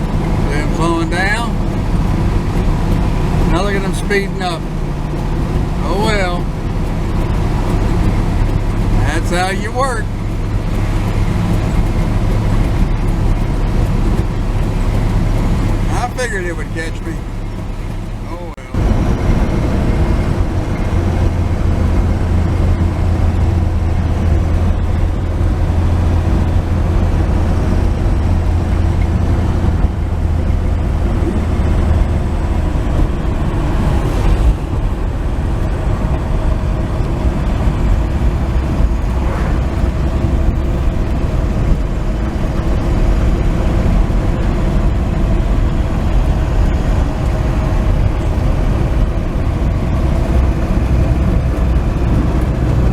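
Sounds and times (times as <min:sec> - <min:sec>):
pickup engine drone: 0:00.0 - 0:52.9
road noise: 0:00.0 - 0:52.9.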